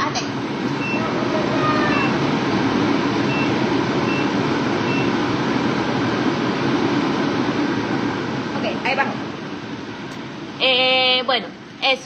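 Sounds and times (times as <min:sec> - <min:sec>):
range hood fan running: 0:00.0 - 0:12.0.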